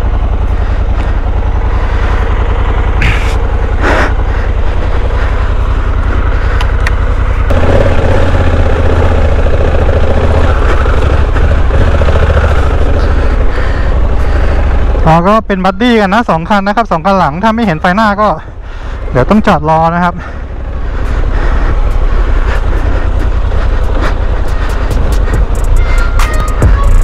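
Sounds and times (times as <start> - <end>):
motorcycle engine revving: 0.0 - 15.3, 20.2 - 27.0.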